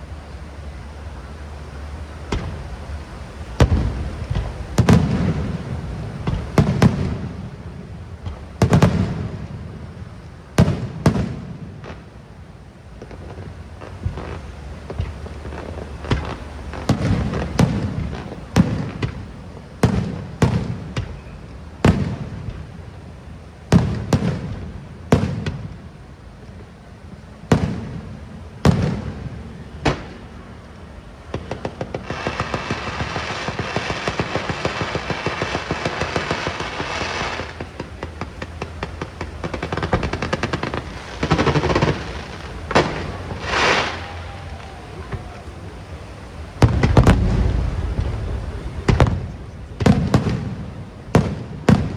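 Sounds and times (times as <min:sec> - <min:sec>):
fireworks booming: 0:00.0 - 0:51.9
fireworks crackling: 0:00.0 - 0:51.9.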